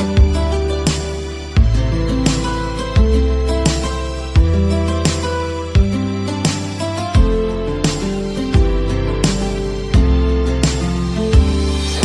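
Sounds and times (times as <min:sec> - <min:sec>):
deep bass: 0:00.0 - 0:12.0
soft plucked instrumental music: 0:00.0 - 0:12.0.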